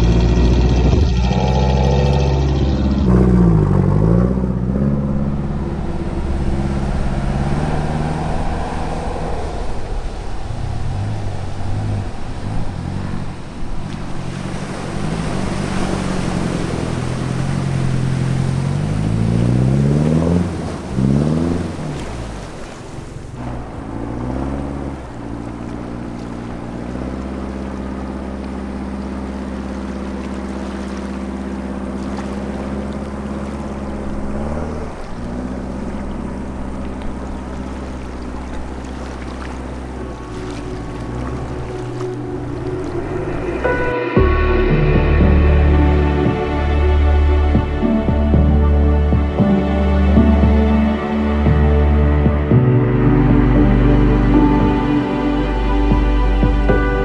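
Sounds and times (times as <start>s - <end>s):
vehicle engine revving: 0.0s - 57.0s
water splashing: 0.0s - 57.0s.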